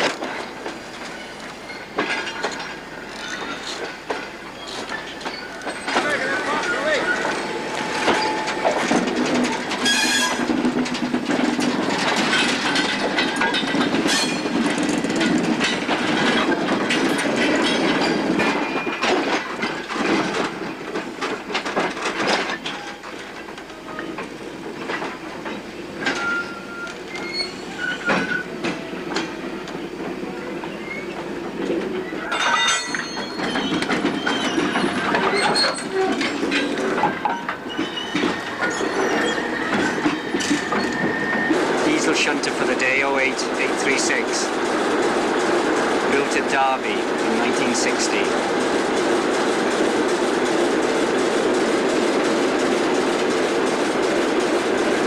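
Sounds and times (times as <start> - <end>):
train wagons rumbling on tracks: 0.0 - 55.0.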